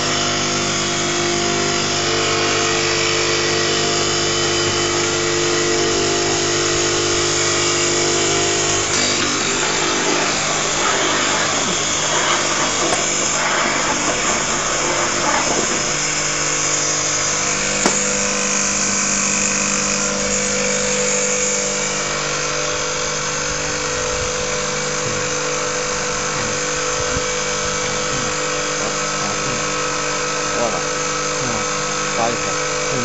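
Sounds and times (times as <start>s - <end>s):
electric grinding mill running: 0.0s - 33.0s.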